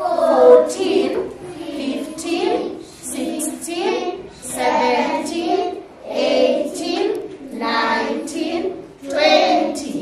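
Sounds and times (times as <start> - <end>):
children counting in unison: 0.0 - 10.0.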